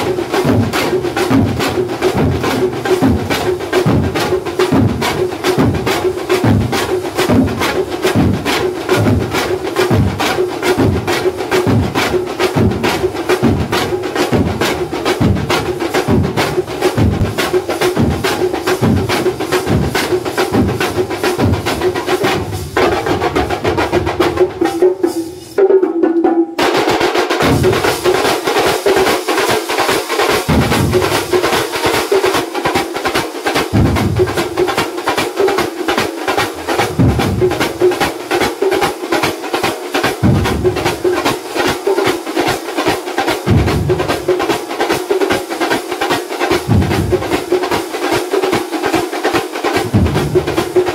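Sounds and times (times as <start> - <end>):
large drums beaten with sticks: 0.0 - 50.9.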